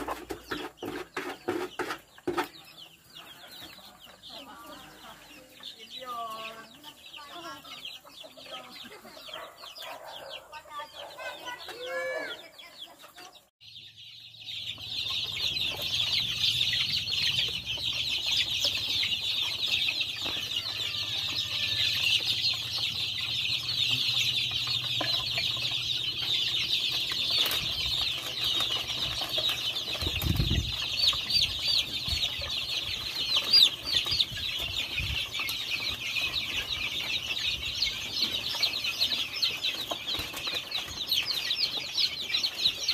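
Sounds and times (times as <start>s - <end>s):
chicken calls: 0.0s - 42.9s
chicks peeping: 0.0s - 42.9s.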